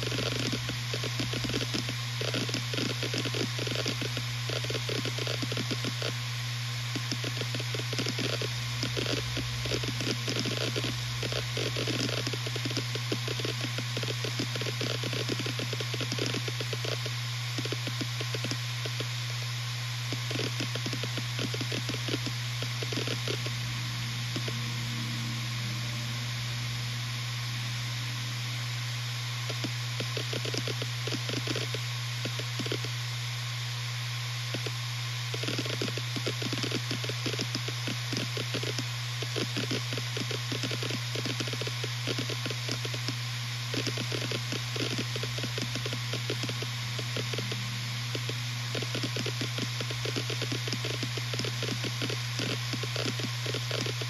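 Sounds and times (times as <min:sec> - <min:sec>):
hard drive heads ticking: 0:00.0 - 0:26.4, 0:29.4 - 0:33.0, 0:34.5 - 0:54.0
hard drive spindle hum: 0:00.0 - 0:54.0.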